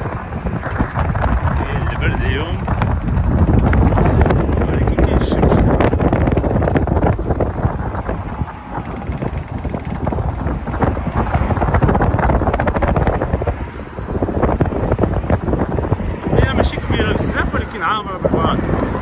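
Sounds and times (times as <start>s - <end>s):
moving road vehicle: 0.0s - 19.0s
wind buffeting microphone: 0.0s - 19.0s.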